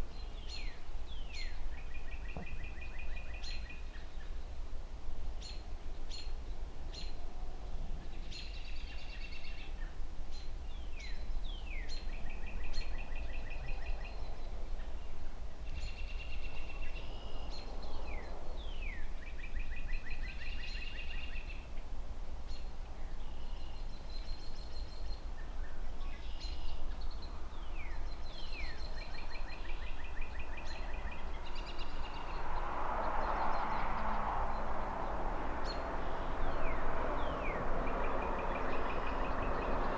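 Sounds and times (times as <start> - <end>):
songbird singing trill: 0.0 - 4.6, 8.0 - 21.9, 22.5 - 39.9
distant traffic rumble: 0.0 - 39.9.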